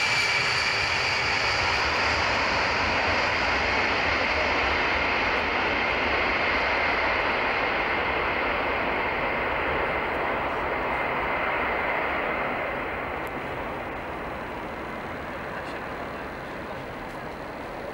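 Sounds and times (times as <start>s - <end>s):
jet engines at takeoff: 0.0s - 17.9s.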